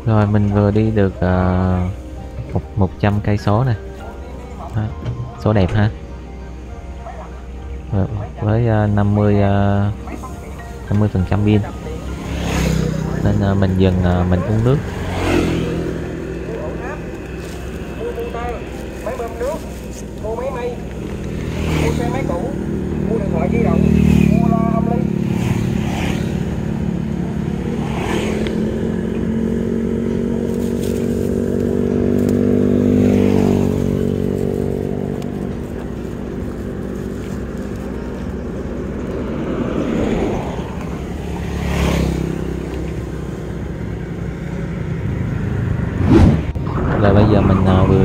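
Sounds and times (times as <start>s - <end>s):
cars passing: 0.0s - 48.0s
motorbikes passing: 0.0s - 48.0s.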